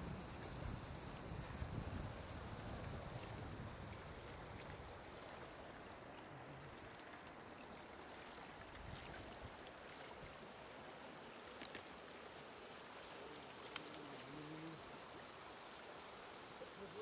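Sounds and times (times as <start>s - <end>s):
water sloshing and trickling: 2.4s - 16.3s.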